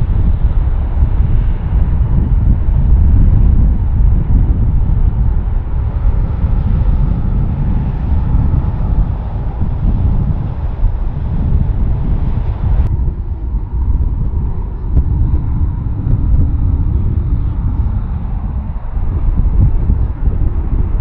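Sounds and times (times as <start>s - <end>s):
jet engines rumbling at takeoff: 0.0s - 21.0s.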